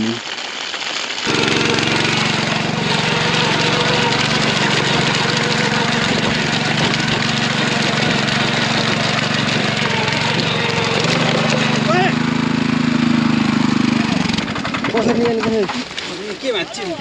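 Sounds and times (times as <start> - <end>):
small petrol engine running: 1.2 - 15.9.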